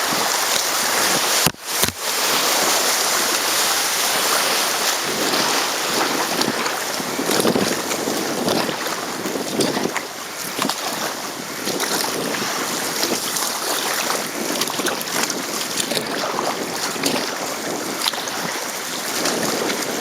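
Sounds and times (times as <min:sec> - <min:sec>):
river water rushing and splashing: 0:00.0 - 0:20.0
wind buffeting microphone: 0:02.2 - 0:20.0.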